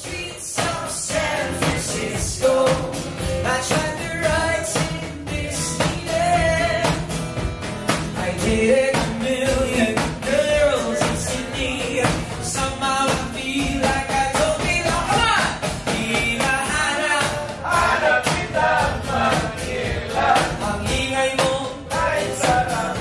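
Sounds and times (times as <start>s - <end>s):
song with singing over a beat: 0.0s - 23.0s.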